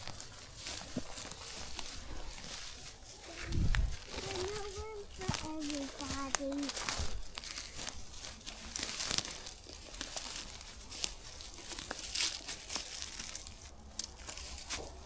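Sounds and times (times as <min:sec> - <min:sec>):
rustling and crinkling: 0:00.0 - 0:15.0
small clicks and crackles: 0:00.0 - 0:15.0.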